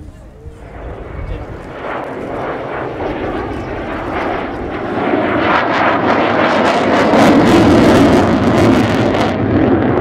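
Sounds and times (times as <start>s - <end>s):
afterburner crackling: 0.0s - 10.0s
jet engine roar: 0.0s - 10.0s.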